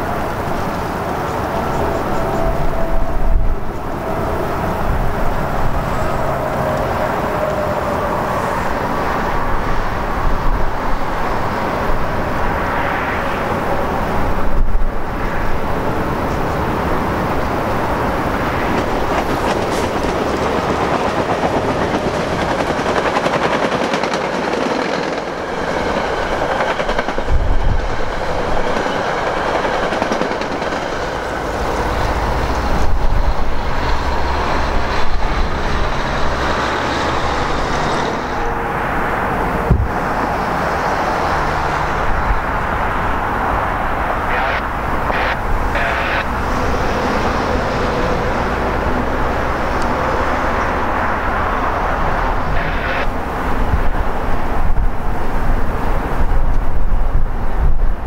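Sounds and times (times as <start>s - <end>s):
passenger train passing: 0.0s - 58.0s.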